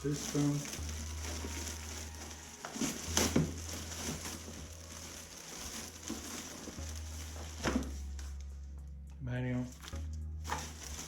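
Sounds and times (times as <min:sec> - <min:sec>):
plastic and cardboard rustling: 0:00.0 - 0:08.6, 0:09.6 - 0:11.0.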